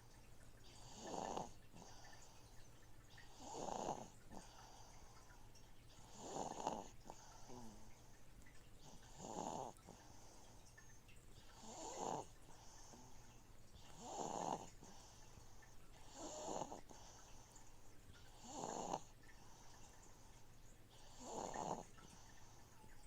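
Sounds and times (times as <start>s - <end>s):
fish tank filter hum: 0.0s - 23.0s
baby snoring faintly: 0.6s - 2.5s, 3.2s - 8.2s, 8.8s - 10.8s, 11.4s - 23.0s.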